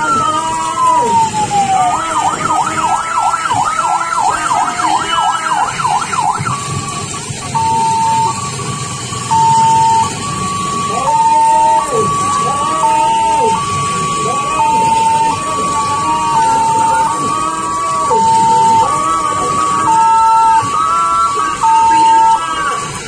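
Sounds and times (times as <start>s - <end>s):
electronic emergency siren: 0.0s - 23.0s.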